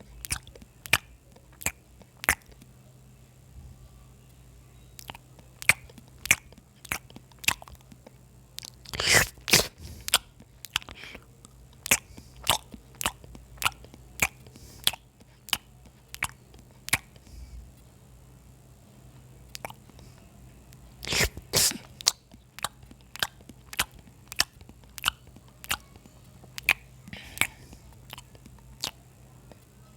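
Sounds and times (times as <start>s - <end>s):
person chewing crunchy food: 0.0s - 2.7s, 5.0s - 17.4s, 19.5s - 20.2s, 21.0s - 29.6s.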